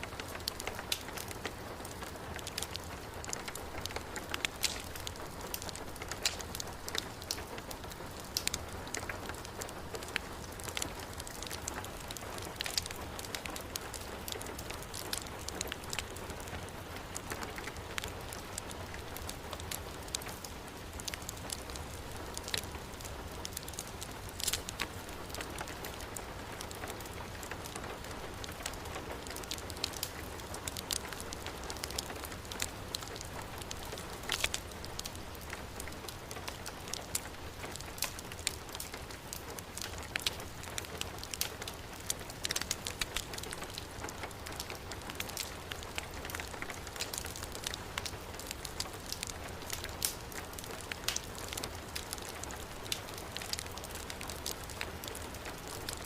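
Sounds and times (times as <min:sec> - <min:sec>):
heavy rain: 0:00.0 - 0:56.0
wood fire crackling: 0:00.0 - 0:56.0.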